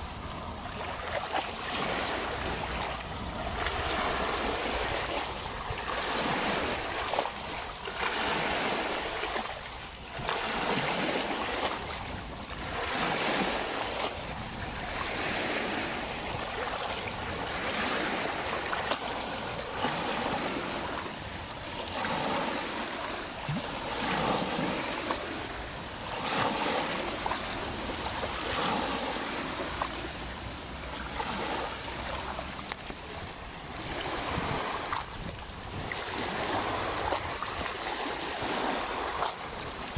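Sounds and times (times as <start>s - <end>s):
lake waves lapping: 0.0s - 39.9s.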